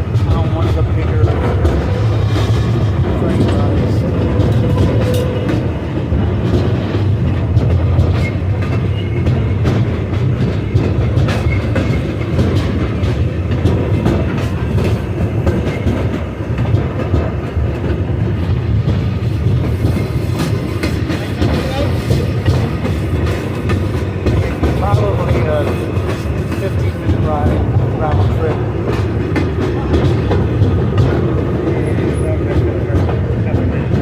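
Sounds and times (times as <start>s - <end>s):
train rumble from aboard: 0.0s - 34.0s
wheels clacking over rails: 0.0s - 34.0s.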